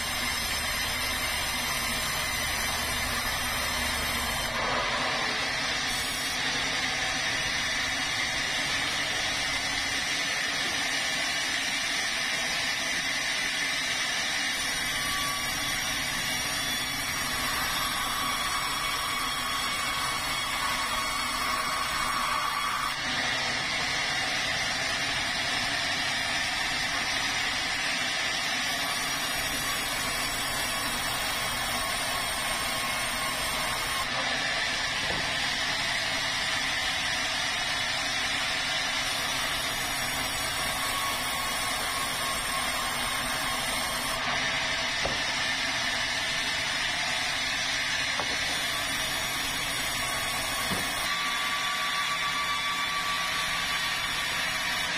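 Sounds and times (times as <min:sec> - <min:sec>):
sawmill saw cutting wood: 0:00.0 - 0:54.9.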